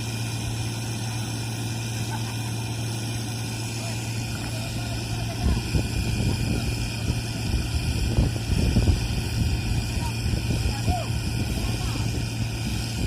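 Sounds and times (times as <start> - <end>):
excavator diesel engine hum: 0.0 - 13.0.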